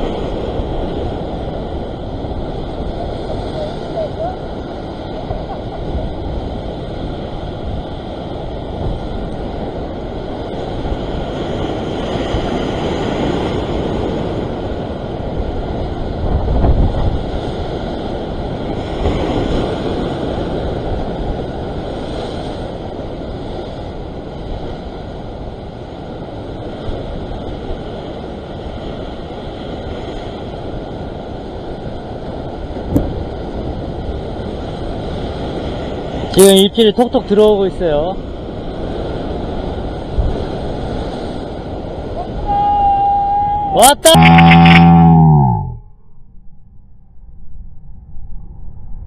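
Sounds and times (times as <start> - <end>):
wind buffeting microphone: 0.0 - 36.4, 38.1 - 43.8
surf washing over rocks: 0.0 - 45.8.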